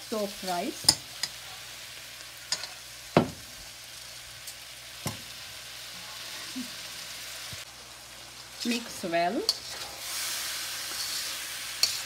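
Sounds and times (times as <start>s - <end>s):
wok sizzling: 0.0s - 12.0s.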